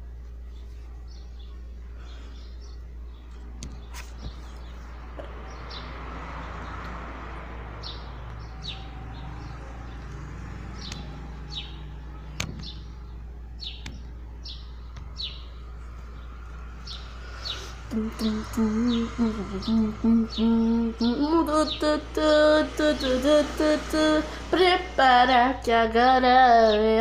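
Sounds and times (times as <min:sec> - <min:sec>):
small birds chirping: 0:00.0 - 0:27.0
steady low hum: 0:00.0 - 0:27.0.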